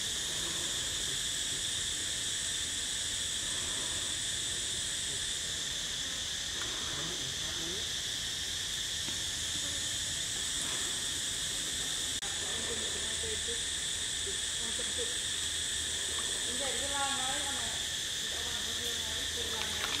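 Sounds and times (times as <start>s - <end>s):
shrill insect chorus: 0.0s - 20.0s.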